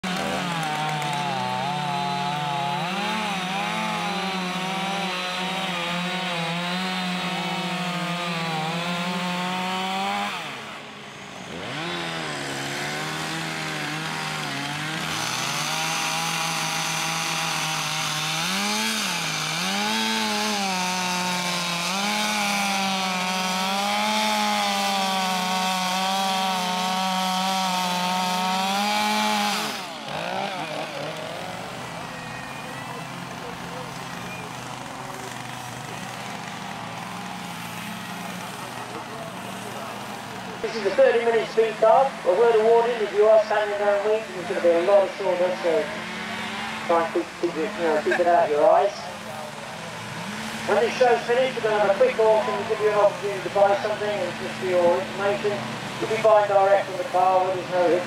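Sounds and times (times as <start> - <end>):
chainsaw cutting into wood: 0.0 - 58.0.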